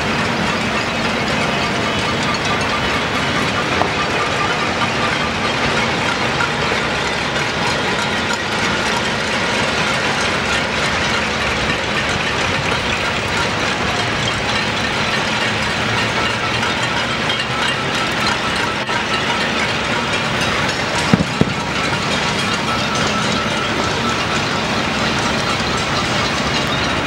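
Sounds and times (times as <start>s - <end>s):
pots and pans being banged: 0.2s - 6.8s, 11.7s - 27.0s.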